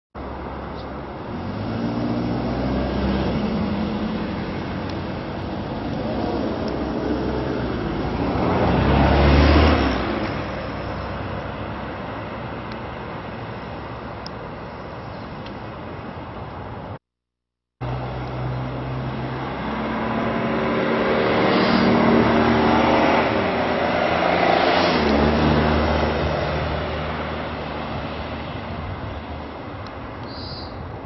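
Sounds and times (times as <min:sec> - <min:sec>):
moving vehicle rumble and hiss: 0:00.2 - 0:17.0, 0:17.8 - 0:31.0.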